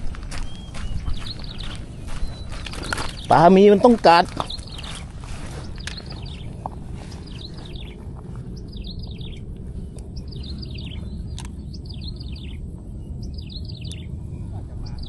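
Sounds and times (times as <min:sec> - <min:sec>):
songbird singing: 0:00.0 - 0:15.0
wind rumble on microphone: 0:00.0 - 0:15.0.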